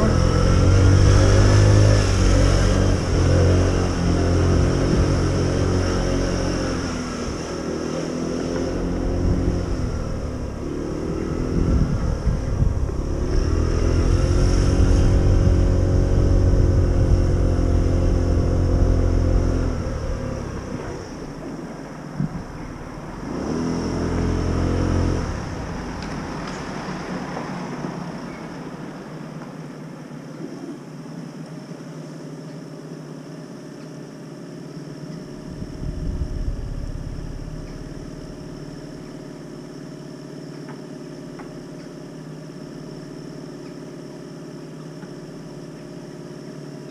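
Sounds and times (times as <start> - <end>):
motor vehicle engine rumbling: 0.0 - 46.9.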